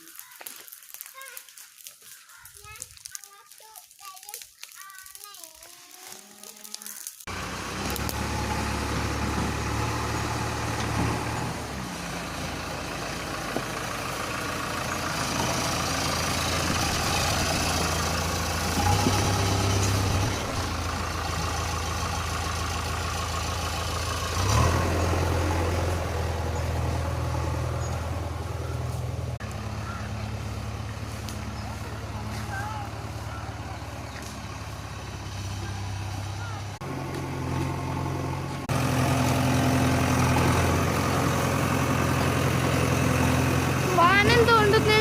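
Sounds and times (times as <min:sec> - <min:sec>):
large engine humming: 0:07.3 - 0:45.0.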